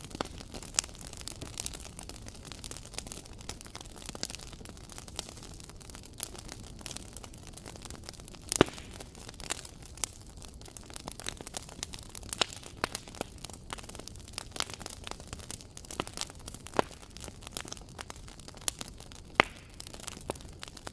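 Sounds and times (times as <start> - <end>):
fire pops and snaps: 0.0 - 20.9.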